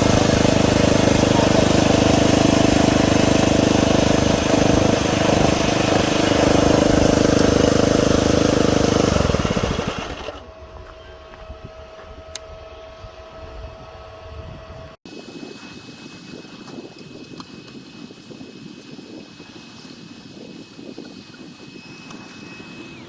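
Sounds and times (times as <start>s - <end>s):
machine running: 0.0s - 14.2s, 15.2s - 23.0s.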